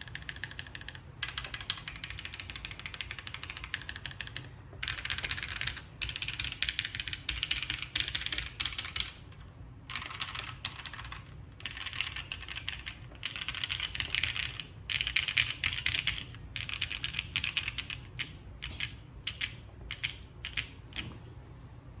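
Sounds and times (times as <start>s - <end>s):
mechanical keyboard typing: 0.0s - 21.2s.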